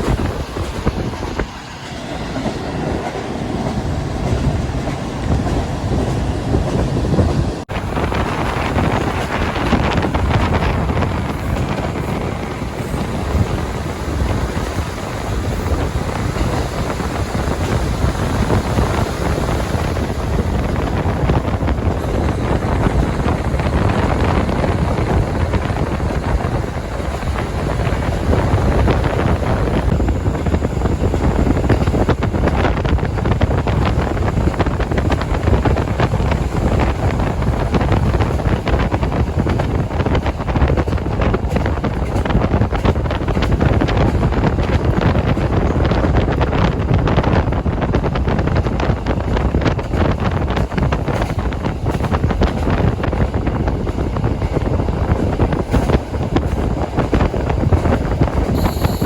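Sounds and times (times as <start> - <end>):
diesel railcar engine: 0.0 - 59.0
wheels on rails: 0.0 - 59.0
wind on microphone: 0.0 - 59.0.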